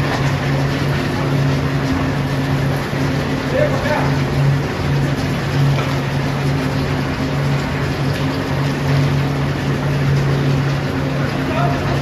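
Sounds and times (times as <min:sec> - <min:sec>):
furnace mechanical drone: 0:00.0 - 0:12.0.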